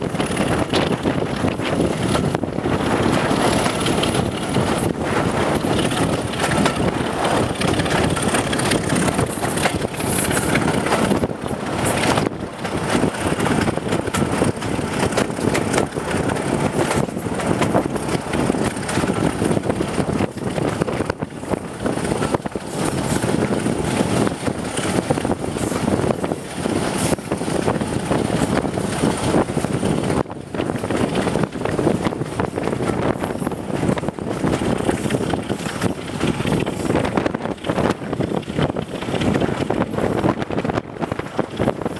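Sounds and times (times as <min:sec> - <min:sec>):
train rumbling along track: 0:00.0 - 0:41.9
wind buffeting microphone: 0:00.0 - 0:41.9.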